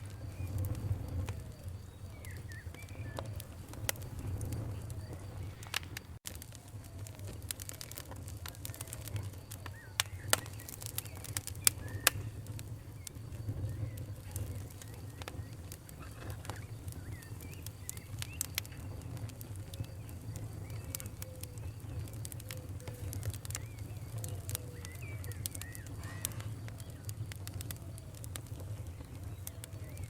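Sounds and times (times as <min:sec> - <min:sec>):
faint bird chirps: 0:00.0 - 0:06.1, 0:06.7 - 0:30.0
campfire crackles and pops: 0:00.0 - 0:30.0
campfire low rumble: 0:00.0 - 0:30.0.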